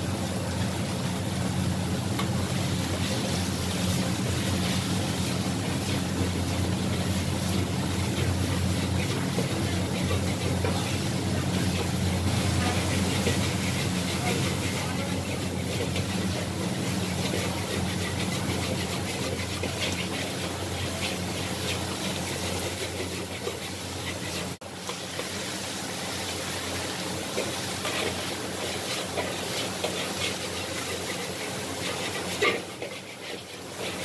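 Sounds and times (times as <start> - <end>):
noodles sizzling in a wok: 0.0 - 34.0
gas burner rushing: 1.2 - 34.0
metal spatula scraping a wok: 2.6 - 25.4, 27.2 - 34.0.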